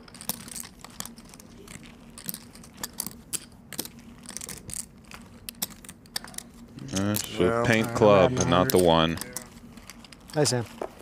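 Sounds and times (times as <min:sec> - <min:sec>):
poker chips clicking: 0:00.0 - 0:10.4.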